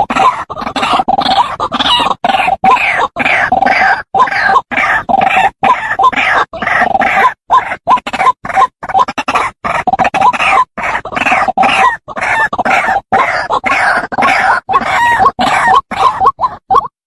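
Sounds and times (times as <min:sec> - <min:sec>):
waterhen croaking calls: 0:00.0 - 0:17.0.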